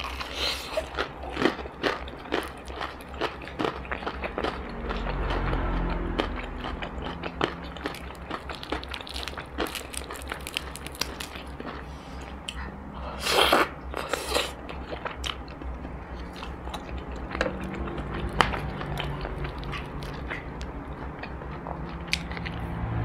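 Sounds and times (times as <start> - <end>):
crunchy chewing: 0.0 - 22.7.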